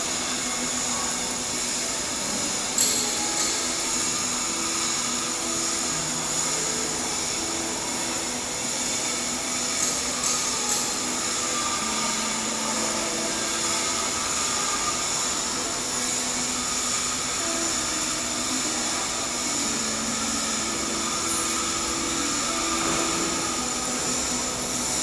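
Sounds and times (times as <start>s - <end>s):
welding arc crackles: 0.0s - 25.0s
welding arc sizzling: 0.0s - 25.0s.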